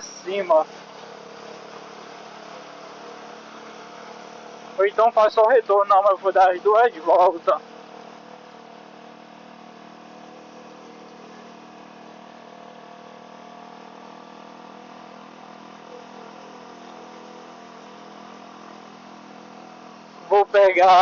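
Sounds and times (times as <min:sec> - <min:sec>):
muffled motorcycle engine drone: 0:00.0 - 0:21.0.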